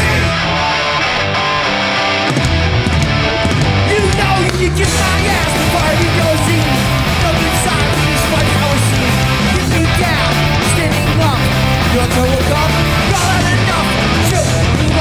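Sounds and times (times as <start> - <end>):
bass guitar: 0.0 - 15.0
distorted electric guitars: 0.0 - 15.0.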